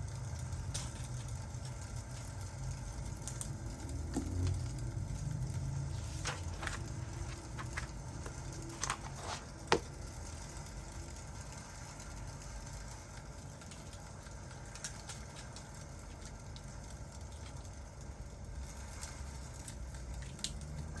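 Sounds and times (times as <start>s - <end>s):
fire popping: 0.0s - 21.0s
fireplace crackling: 0.0s - 21.0s.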